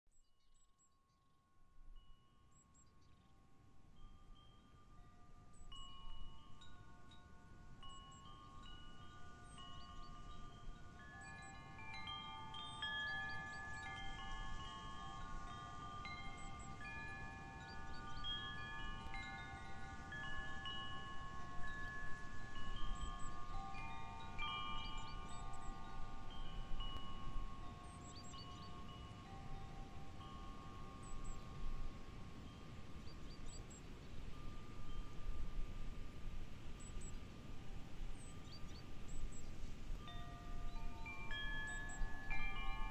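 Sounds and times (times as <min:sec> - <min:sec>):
wind chimes ringing: 0:01.4 - 0:42.9.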